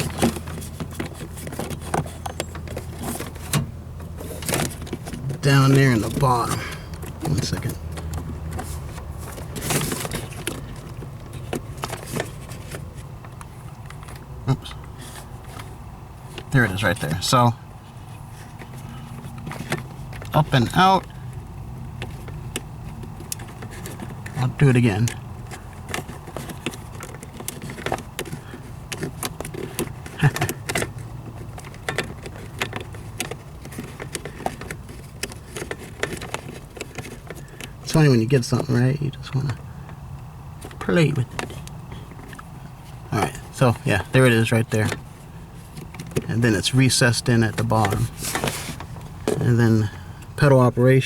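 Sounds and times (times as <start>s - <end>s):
hands working cable clicks and scrapes: 0.0s - 51.0s.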